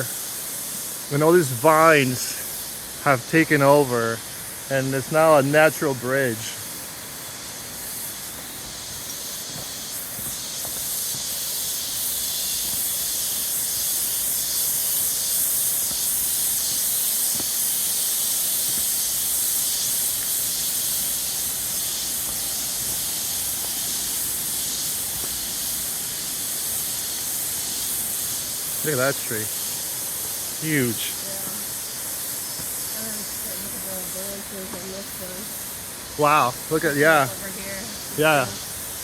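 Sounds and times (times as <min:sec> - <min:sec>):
cicadas buzzing: 0:00.0 - 0:39.0.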